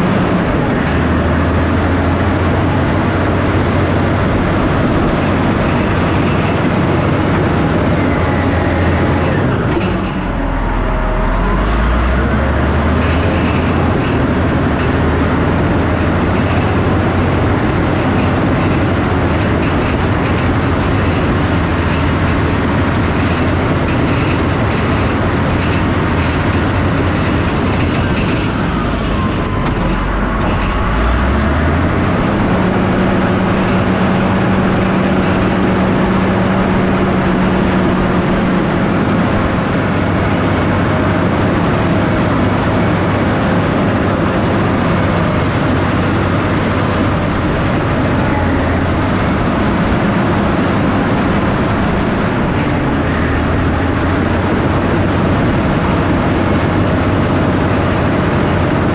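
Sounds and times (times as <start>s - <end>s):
heavy earthmoving machine engine: 0.0s - 58.9s
steady clatter: 0.0s - 58.9s.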